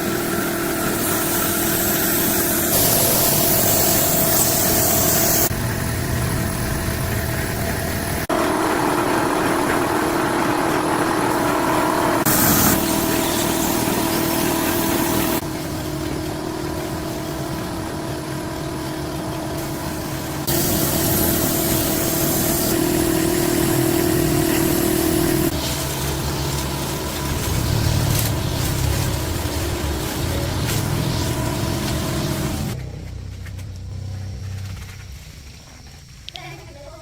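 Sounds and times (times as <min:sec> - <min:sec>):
engine humming: 0:05.4 - 0:36.0.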